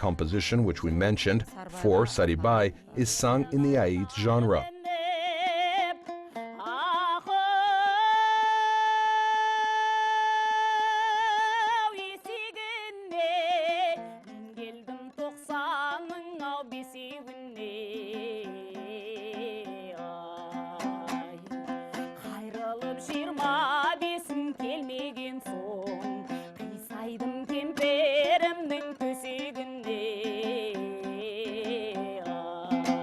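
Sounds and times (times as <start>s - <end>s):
plucked string instrument: 0.0s - 33.0s
person singing with vibrato: 1.5s - 6.0s, 6.6s - 13.8s, 17.6s - 33.0s.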